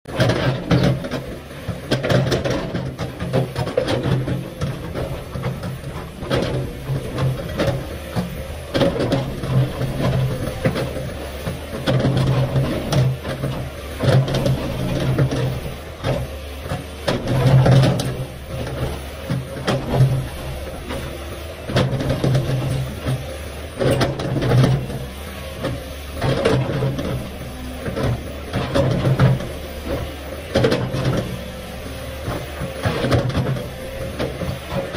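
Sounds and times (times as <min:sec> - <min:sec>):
excavator diesel engine under load: 0:00.0 - 0:34.9.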